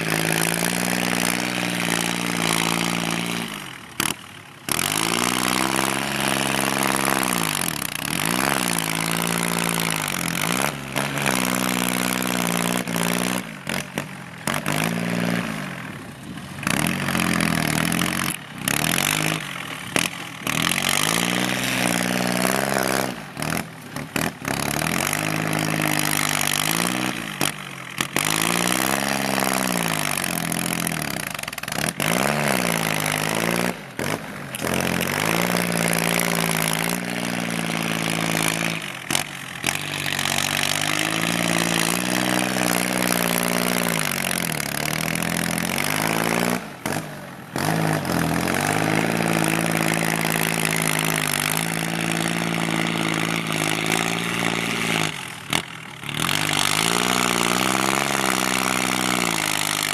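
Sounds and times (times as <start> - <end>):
tractor diesel engine revving: 0.0 - 59.9.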